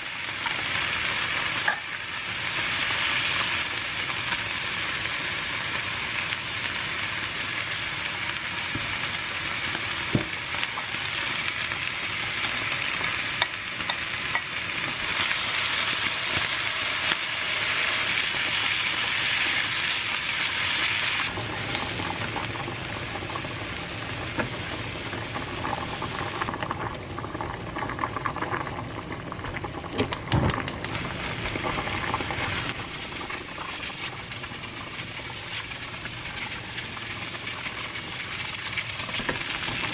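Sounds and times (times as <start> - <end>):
food sizzling in a wok: 0.0 - 27.1, 30.3 - 39.9.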